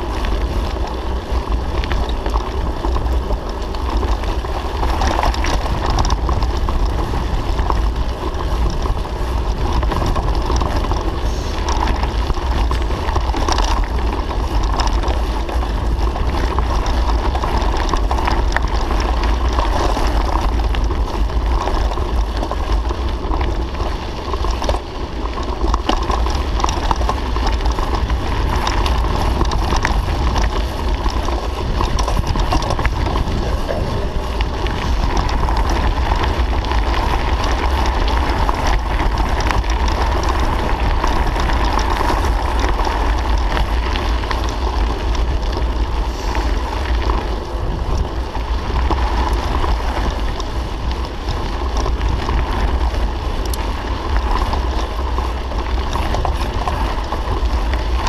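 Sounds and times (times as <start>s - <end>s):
bike rattling: 0.0s - 58.0s
tyres crunching on gravel: 0.0s - 58.0s
wind buffeting microphone: 0.0s - 58.0s.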